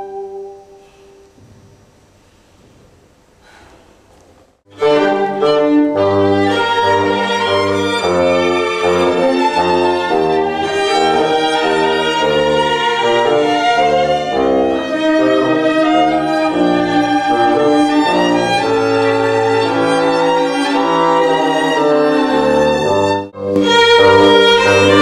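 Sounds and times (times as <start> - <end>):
chamber ensemble playing held chords: 0.0 - 1.4, 4.7 - 25.0.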